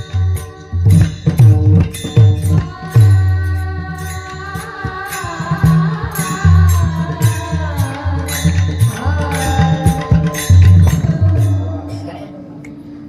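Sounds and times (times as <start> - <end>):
small hand cymbals clashing: 0.0 - 12.2
rhythmic drum strokes: 0.0 - 12.8.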